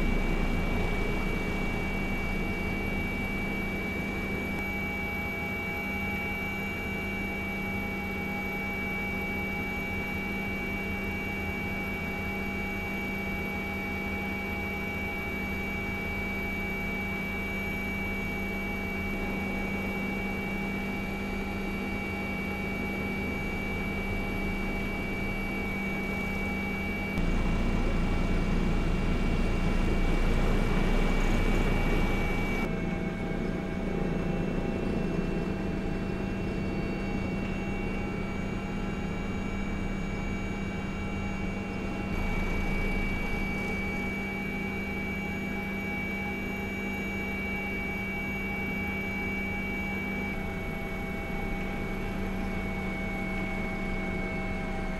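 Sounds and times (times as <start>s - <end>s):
helicopter turbine whine and drone: 0.0s - 54.9s.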